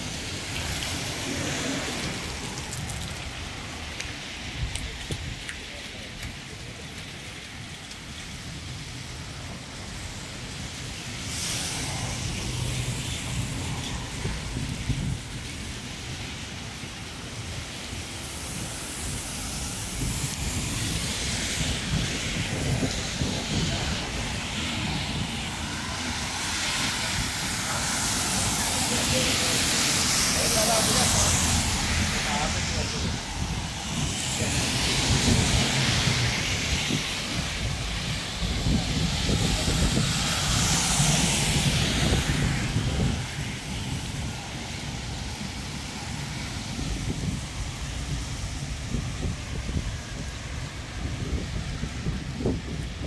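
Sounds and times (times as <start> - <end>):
rain hissing: 0.0 - 53.0
tyres on wet road: 0.0 - 53.0
wind rumbling on microphone: 0.0 - 53.0.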